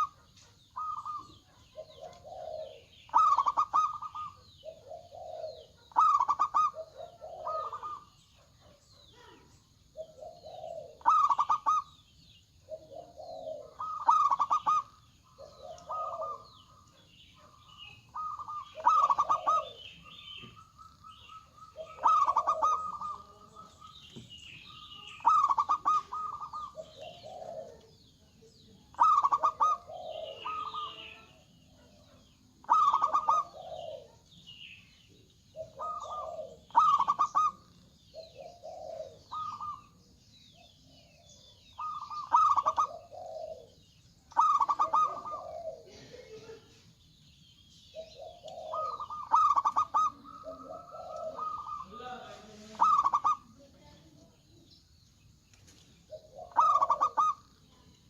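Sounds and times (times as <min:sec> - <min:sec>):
dove cooing loudly: 0:00.0 - 0:28.2, 0:28.9 - 0:34.2, 0:35.5 - 0:40.0, 0:40.6 - 0:46.7, 0:47.9 - 0:53.6, 0:56.1 - 0:57.8.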